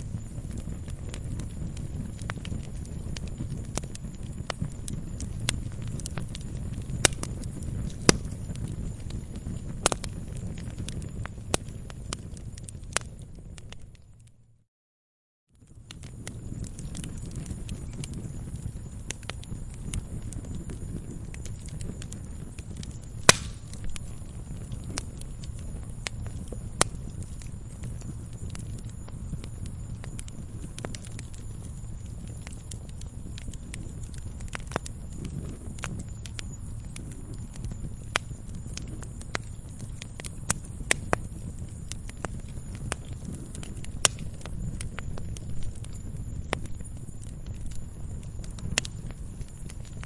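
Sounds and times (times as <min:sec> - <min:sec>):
sharp pops of fire: 0:00.0 - 0:14.2, 0:15.6 - 0:50.0
wood fire crackling: 0:00.0 - 0:14.5, 0:15.6 - 0:50.0.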